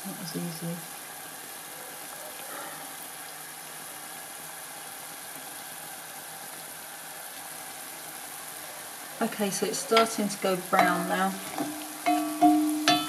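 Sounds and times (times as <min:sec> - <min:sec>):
dough sizzling in hot oil: 0:00.0 - 0:13.0.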